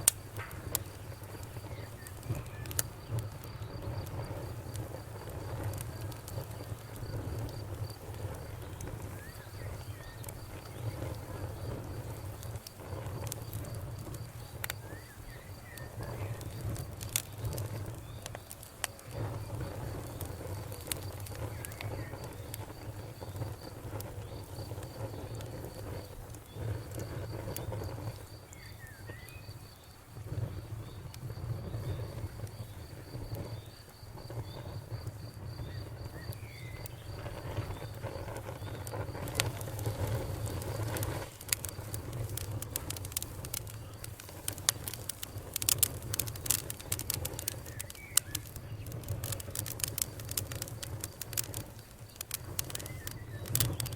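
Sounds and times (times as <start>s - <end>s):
campfire crackling and popping: 0.0s - 53.9s
cricket chirping: 0.0s - 53.9s.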